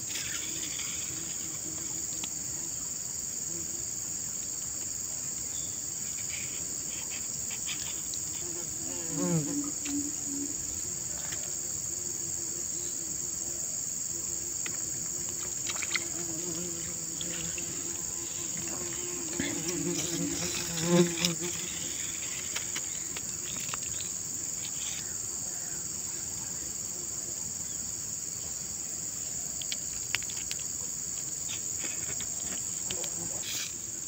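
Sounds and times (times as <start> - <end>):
high-pitched insect chorus: 0.0 - 34.0.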